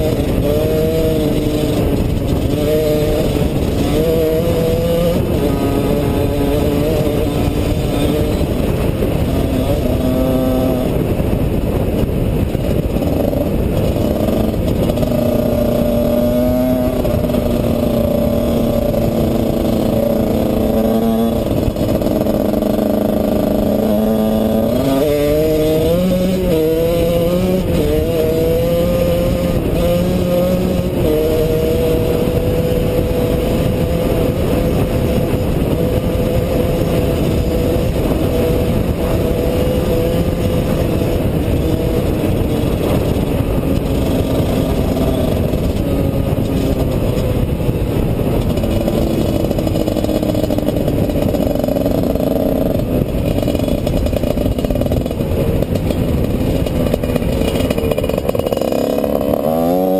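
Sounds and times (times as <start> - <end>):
motorcycle engine running: 0.0 - 59.9
steady rumbling noise: 0.0 - 59.9.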